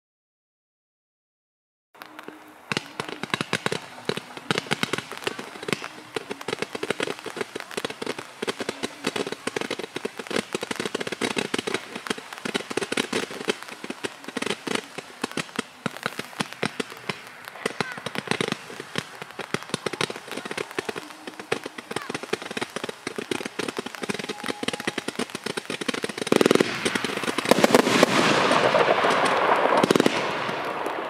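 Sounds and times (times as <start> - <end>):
firework fuse hiss: 2.0 - 31.0
rapid firework pops: 2.0 - 31.0.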